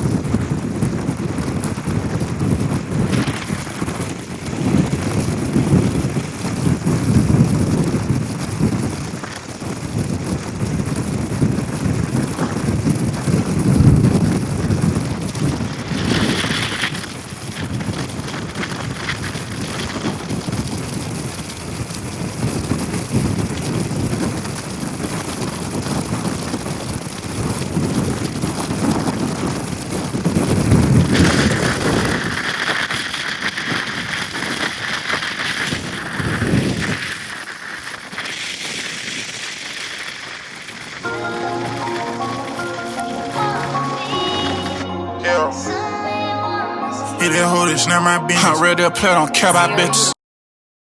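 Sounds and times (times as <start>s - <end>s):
wind buffeting microphone: 0.0s - 44.6s
wet road noise: 0.0s - 44.8s
rain: 0.0s - 44.9s.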